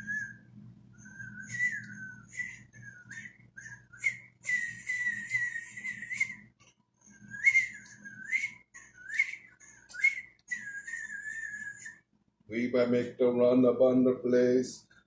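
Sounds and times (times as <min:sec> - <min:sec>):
man whistling: 0:00.0 - 0:12.1.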